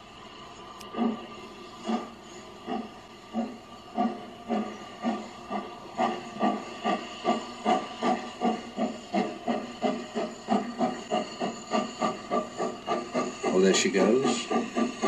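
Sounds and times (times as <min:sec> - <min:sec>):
steam locomotive exhaust chuffing: 0:00.0 - 0:15.0.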